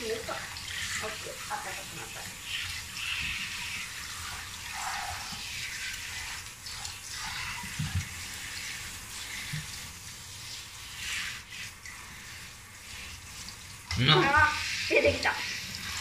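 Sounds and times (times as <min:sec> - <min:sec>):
shower spraying water: 0:00.0 - 0:16.0.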